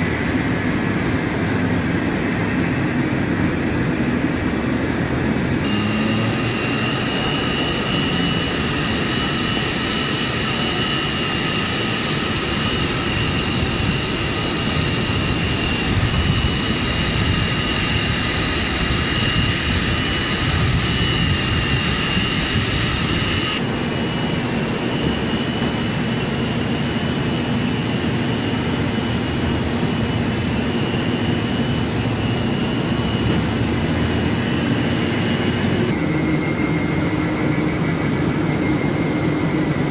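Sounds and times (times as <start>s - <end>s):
high turbine whine: 0.0s - 39.9s
jet engines rumbling: 0.0s - 39.9s.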